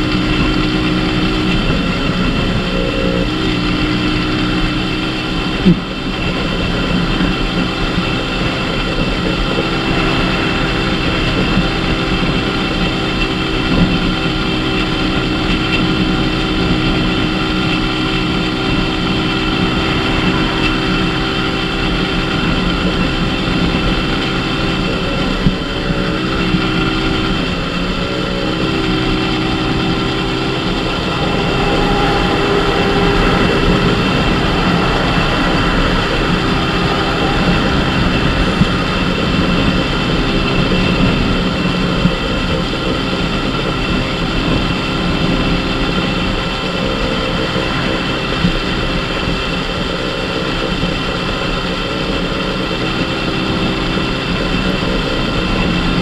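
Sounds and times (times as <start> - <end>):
road noise: 0.0 - 56.0
small motorcycle engine running: 0.0 - 56.0
truck passing rumble: 0.0 - 56.0.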